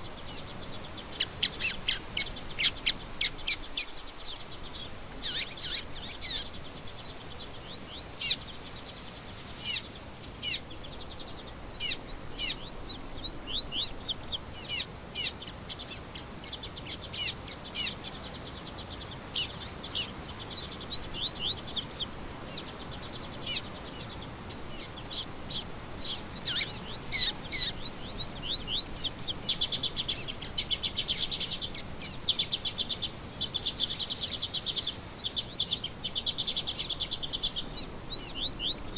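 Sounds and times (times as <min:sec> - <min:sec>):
fast buzzy bird trill: 0:00.0 - 0:38.9
songbirds chirping: 0:00.0 - 0:38.9.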